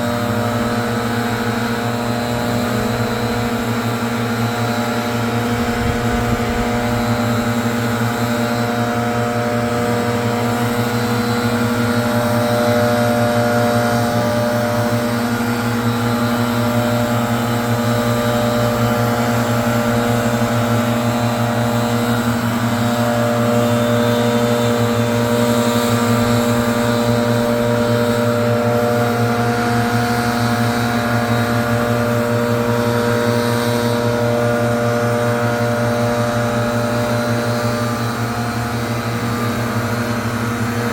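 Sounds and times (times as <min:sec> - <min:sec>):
leaf blower engine running: 0:00.0 - 0:40.9.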